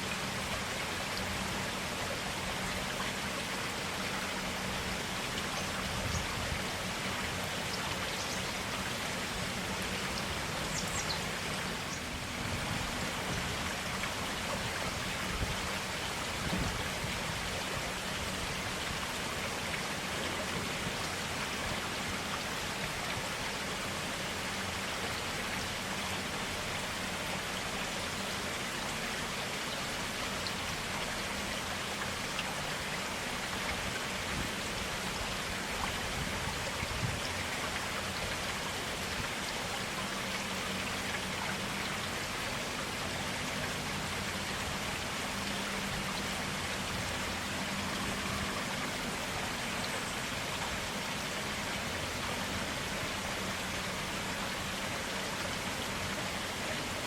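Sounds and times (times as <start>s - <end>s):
stream water running and splashing: 0.0s - 57.0s.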